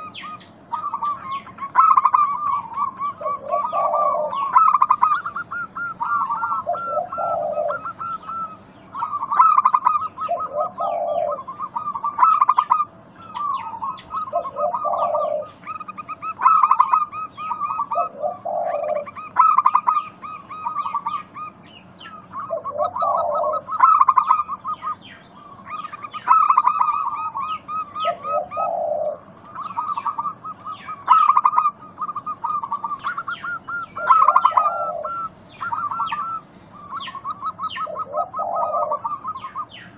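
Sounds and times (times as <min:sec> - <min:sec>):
birds chirping and trilling: 0:00.0 - 0:39.9
doves cooing: 0:00.0 - 0:39.9.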